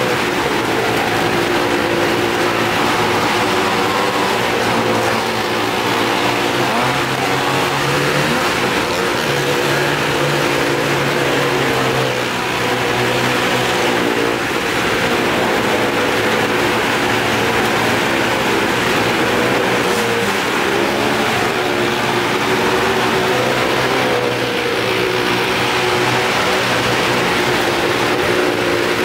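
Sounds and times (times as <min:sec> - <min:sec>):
car engines running hard: 0:00.0 - 0:29.0
motorcycle engine running hard: 0:00.0 - 0:29.0.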